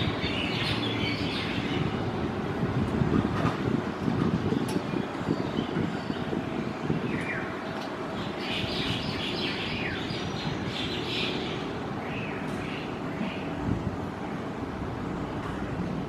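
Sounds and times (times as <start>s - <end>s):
songbirds chirping: 0.0s - 2.6s, 4.0s - 14.6s.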